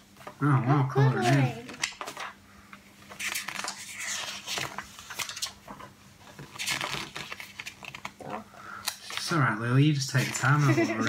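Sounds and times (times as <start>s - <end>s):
booklet pages flipping: 1.2s - 9.4s, 10.1s - 11.0s.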